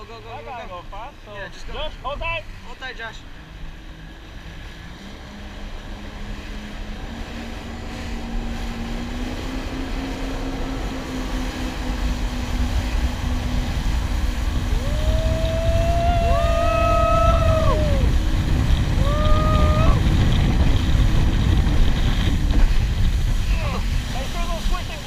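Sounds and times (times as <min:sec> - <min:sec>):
jet ski engine drone: 0:00.0 - 0:25.0
rushing water: 0:00.0 - 0:25.0
wind: 0:00.0 - 0:25.0.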